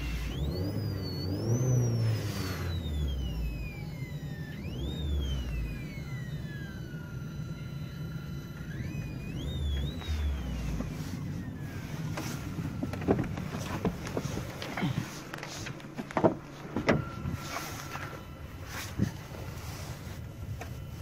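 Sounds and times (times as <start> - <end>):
car speakers whistling: 0.0 - 21.0
low engine rumble: 0.0 - 21.0.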